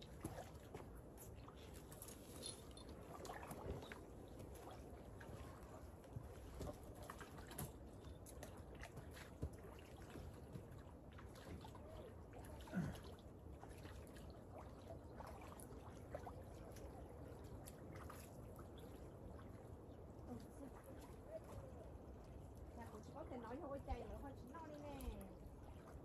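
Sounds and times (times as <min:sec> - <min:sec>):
small waves lapping shore: 0:00.0 - 0:26.0.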